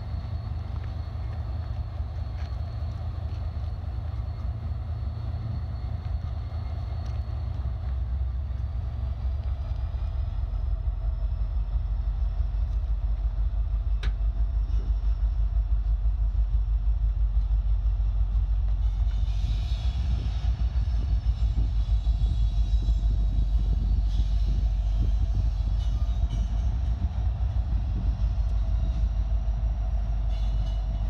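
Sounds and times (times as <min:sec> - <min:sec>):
diesel locomotive rumble: 0:00.0 - 0:31.0.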